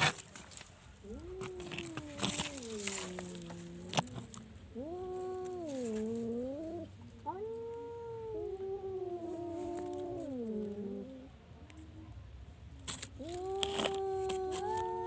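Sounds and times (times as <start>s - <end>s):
cat yowling: 1.0s - 11.3s, 13.2s - 15.0s.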